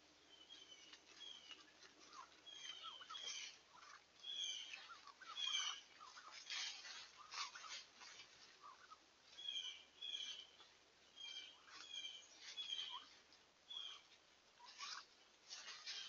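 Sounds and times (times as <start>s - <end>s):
leaves rustling: 0.0s - 16.0s
turkey peeps: 0.3s - 16.0s.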